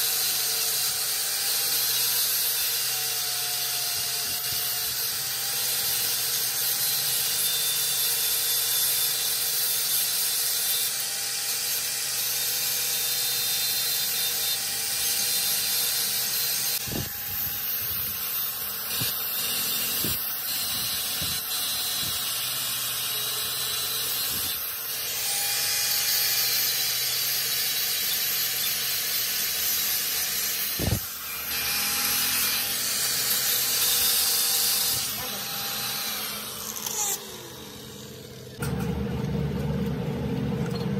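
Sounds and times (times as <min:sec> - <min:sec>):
angle grinder grinding steel: 0:00.0 - 0:39.0.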